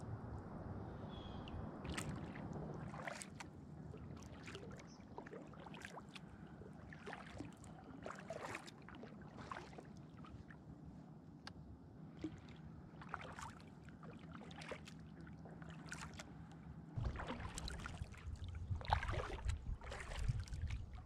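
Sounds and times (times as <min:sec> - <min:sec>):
water splashing against hull: 0:01.2 - 0:21.0.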